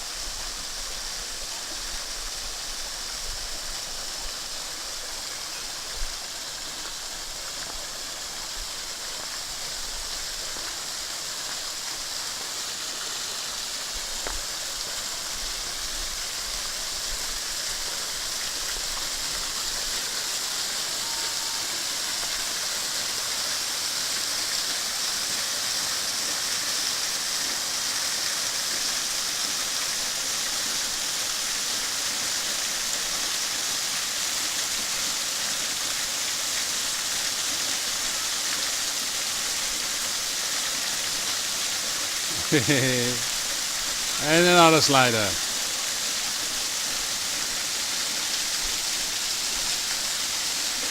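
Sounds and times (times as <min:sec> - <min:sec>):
waterfall splashing over rocks: 0:00.0 - 0:50.9.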